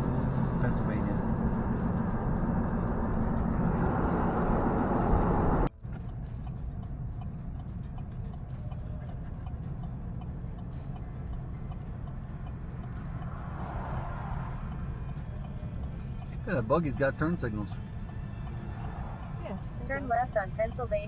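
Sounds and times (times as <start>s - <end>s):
horse hooves clip-clopping on pavement: 0.0s - 21.0s
vehicle road noise: 0.0s - 21.0s.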